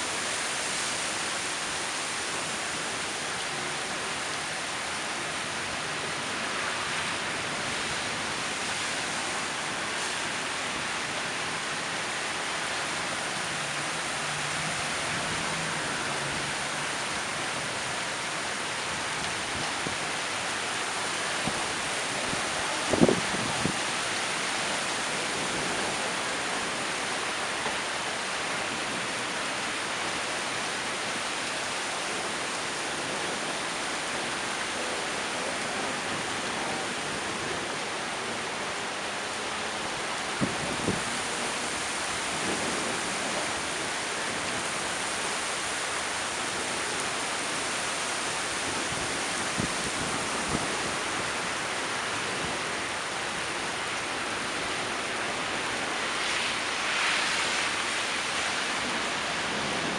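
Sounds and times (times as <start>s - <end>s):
heavy rain falling: 0.0s - 59.9s
sharp rain taps: 0.1s - 38.8s, 39.7s - 59.9s.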